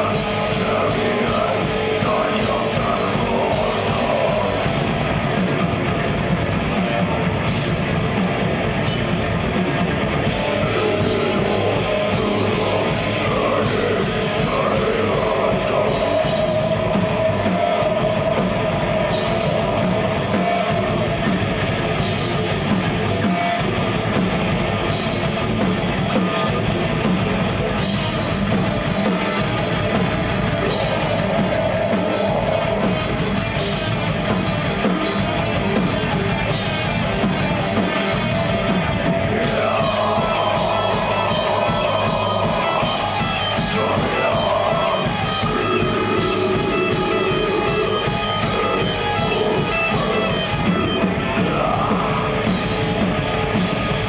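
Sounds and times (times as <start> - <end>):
distorted guitars: 0.0 - 54.0
drum kit: 0.0 - 54.0.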